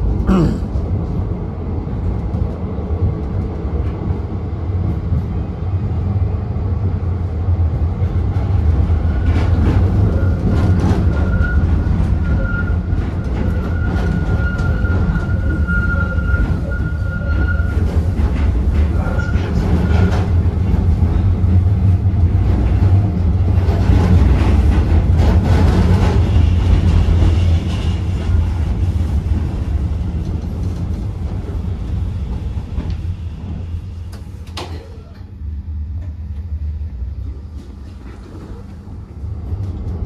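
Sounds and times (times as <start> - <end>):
tram rumbling on rails: 0.0 - 40.0.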